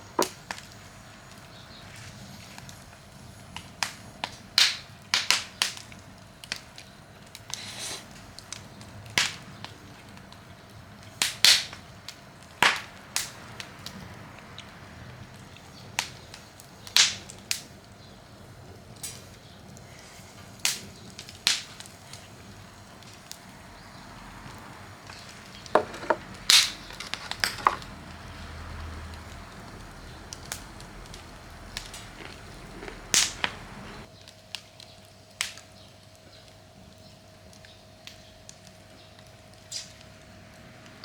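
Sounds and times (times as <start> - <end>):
faint steady hum: 0.0 - 34.3
campfire crackling and popping: 0.0 - 41.0.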